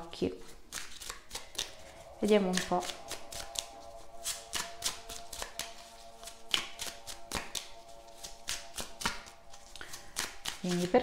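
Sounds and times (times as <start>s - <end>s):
quiet background music: 0.0s - 11.0s
deck of cards shuffling: 0.3s - 11.0s.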